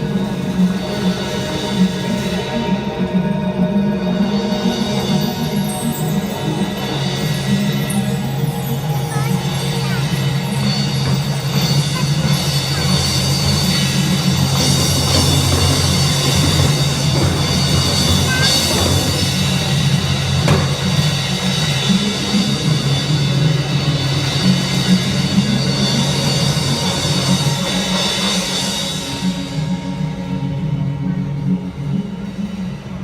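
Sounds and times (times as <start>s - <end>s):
loud music with drums: 0.0s - 33.0s.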